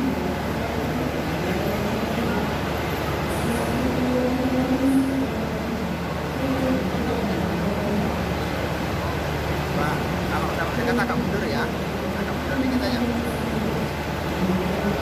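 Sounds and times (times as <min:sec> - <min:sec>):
rail vehicle running noise: 0:00.0 - 0:15.0.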